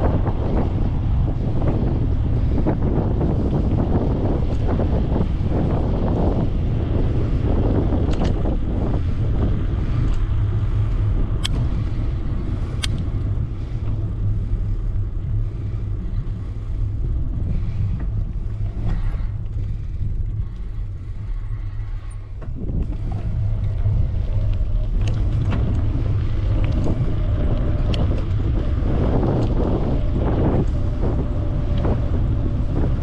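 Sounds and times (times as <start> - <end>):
road rumble: 0.0 - 33.0
wind buffeting microphone: 0.0 - 33.0.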